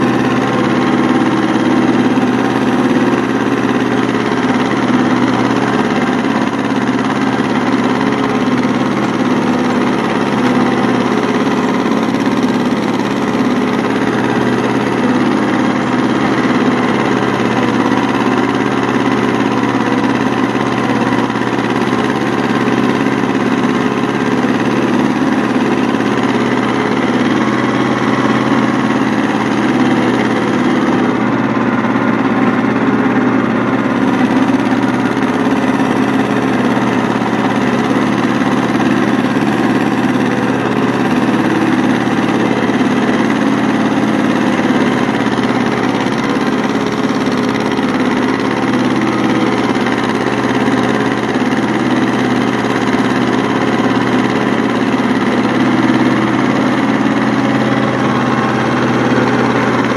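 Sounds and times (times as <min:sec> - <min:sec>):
rotary tiller churning soil: 0:00.0 - 0:59.9
tractor engine running: 0:00.0 - 0:59.9.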